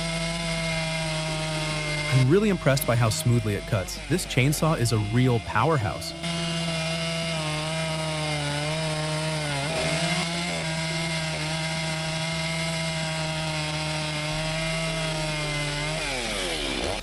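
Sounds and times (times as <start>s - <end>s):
chainsaw sawing through wood: 0.0s - 17.0s.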